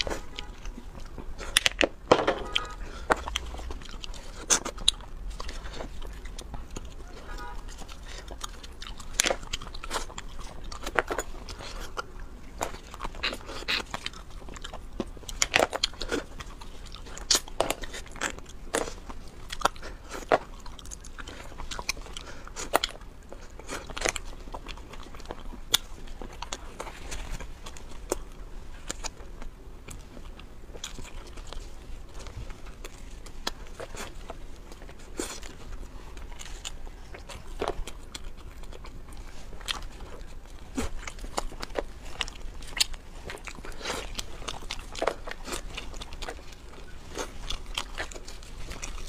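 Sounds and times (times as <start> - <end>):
person chewing crunchy food: 0.0 - 49.0.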